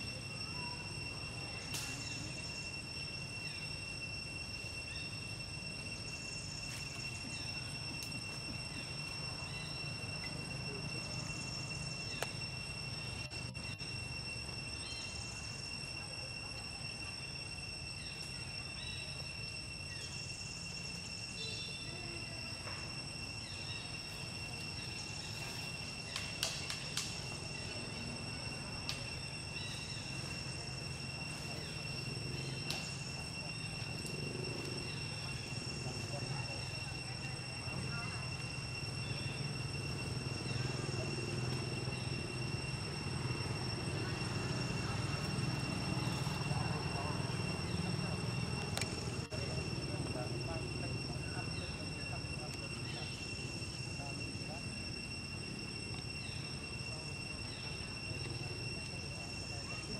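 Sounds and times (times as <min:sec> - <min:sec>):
low outdoor rumble: 0:00.0 - 0:59.6
high-pitched insect drone: 0:00.0 - 0:59.9.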